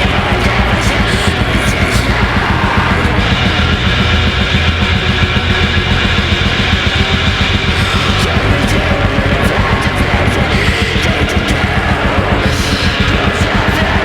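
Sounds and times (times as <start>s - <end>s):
heavy metal music: 0.0s - 14.0s.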